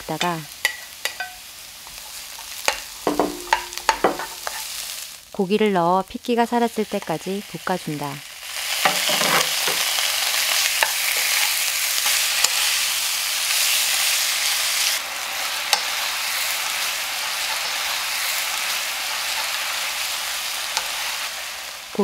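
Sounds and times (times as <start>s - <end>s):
meat and onion sizzling in pan: 0.0s - 22.0s.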